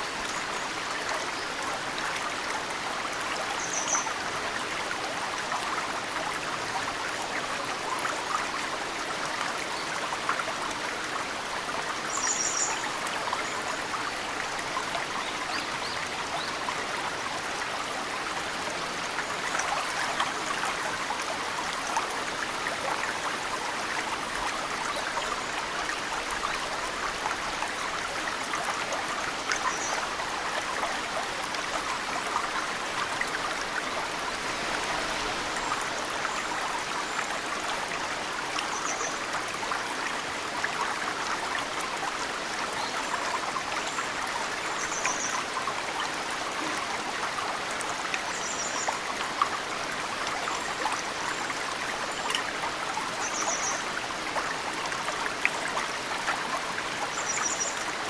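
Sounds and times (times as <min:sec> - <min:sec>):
mountain stream running: 0:00.0 - 0:58.0.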